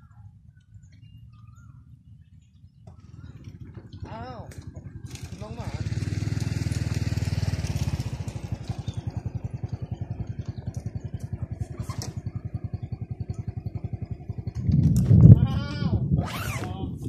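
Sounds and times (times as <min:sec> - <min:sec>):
motorcycle engine idling: 0:00.0 - 0:15.7.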